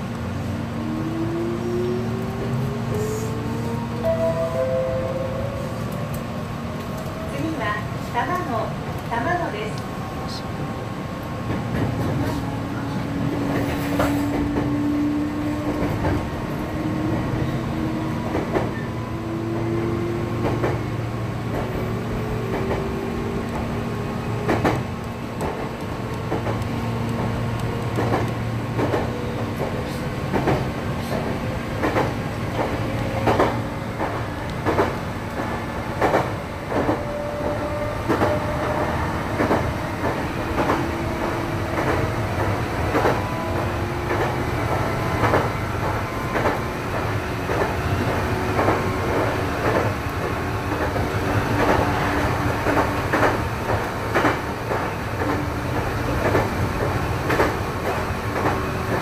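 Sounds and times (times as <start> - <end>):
steady train rumble: 0.0 - 59.0.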